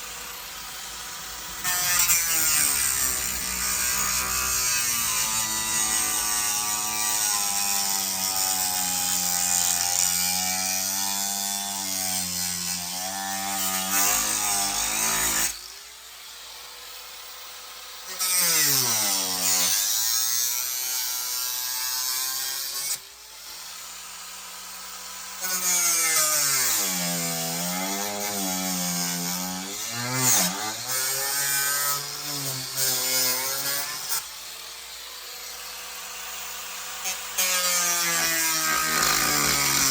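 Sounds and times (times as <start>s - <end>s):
electric power tool cutting: 0.0s - 39.9s.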